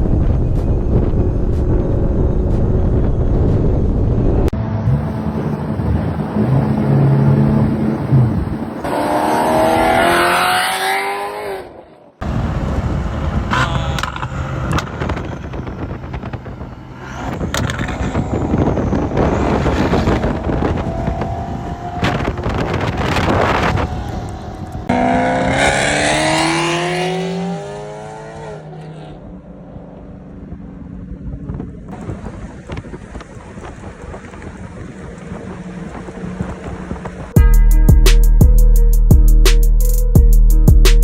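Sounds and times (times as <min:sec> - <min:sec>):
car engines accelerating hard: 0:00.0 - 0:37.4.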